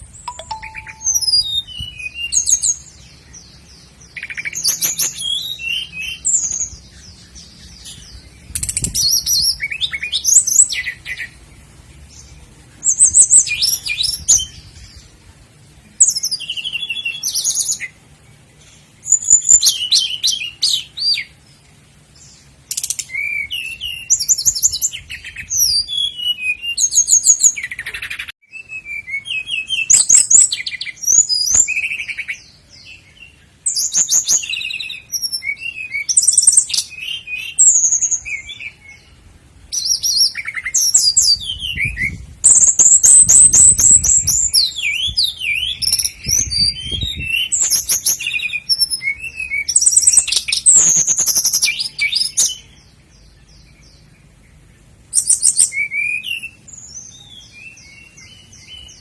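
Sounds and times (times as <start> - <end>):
nightingale singing: 0.0 - 59.0.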